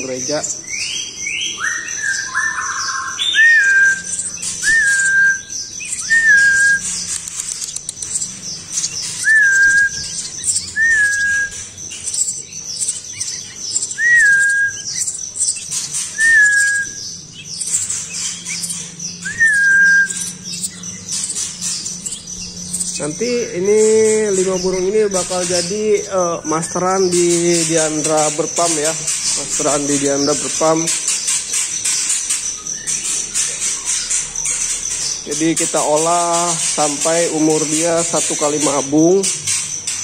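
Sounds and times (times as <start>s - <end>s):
nestling birds begging calls: 0.0s - 40.0s.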